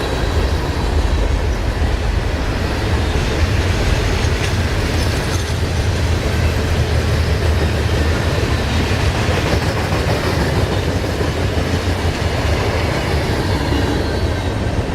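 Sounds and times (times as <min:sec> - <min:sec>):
freight train rolling past: 0:00.0 - 0:14.9.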